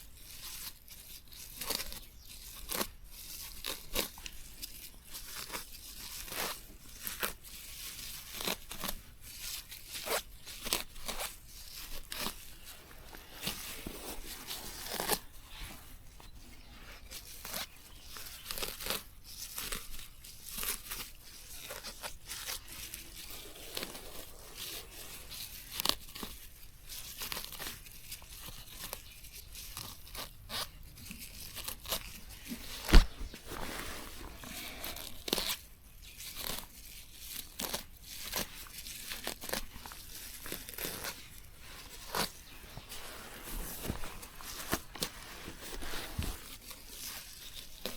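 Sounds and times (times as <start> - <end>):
plants tearing and crunching: 1.0 - 15.6, 17.2 - 47.9.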